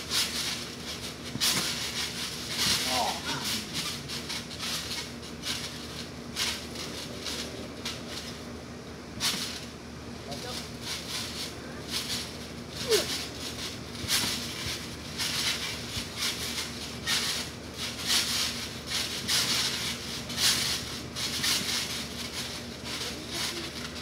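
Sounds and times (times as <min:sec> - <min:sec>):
trampoline mat and springs hissing: 0:00.0 - 0:24.0.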